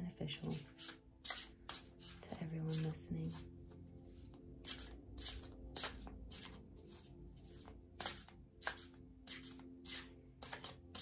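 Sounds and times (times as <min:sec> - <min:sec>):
cards being shuffled: 0:00.5 - 0:03.5, 0:04.3 - 0:11.0.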